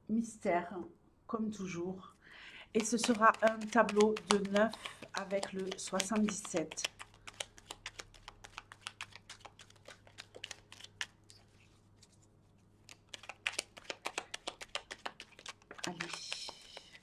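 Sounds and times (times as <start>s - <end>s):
cards shuffling: 2.8s - 17.0s.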